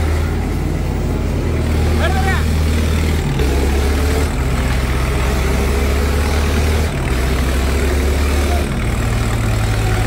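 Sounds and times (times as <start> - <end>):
diesel tractor engines running: 0.0 - 10.0.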